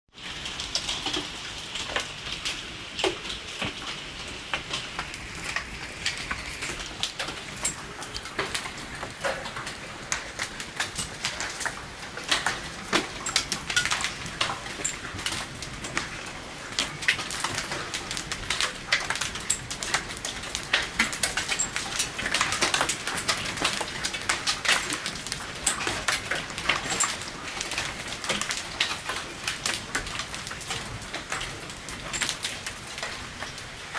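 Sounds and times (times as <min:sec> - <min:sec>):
hailstones pelting down: 0:00.2 - 0:33.9.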